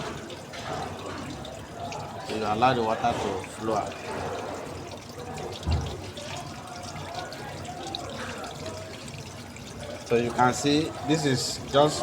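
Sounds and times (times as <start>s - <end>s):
water pouring from a tank: 0.0s - 12.0s.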